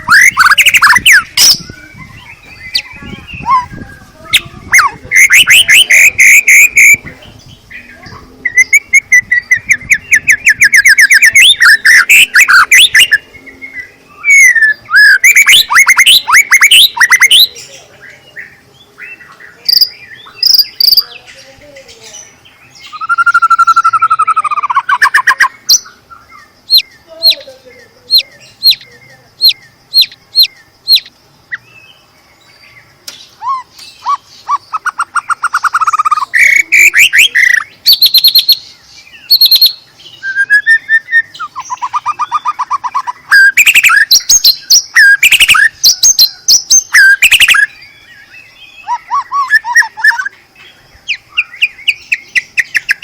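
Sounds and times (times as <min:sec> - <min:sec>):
songbird singing varied song: 0:00.0 - 0:53.0.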